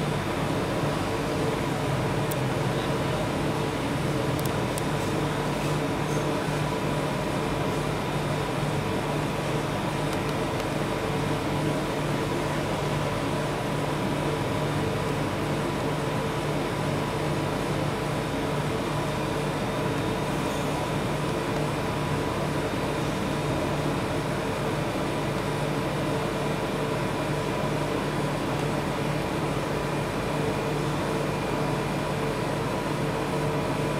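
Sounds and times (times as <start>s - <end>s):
refrigeration unit humming: 0.0s - 33.9s.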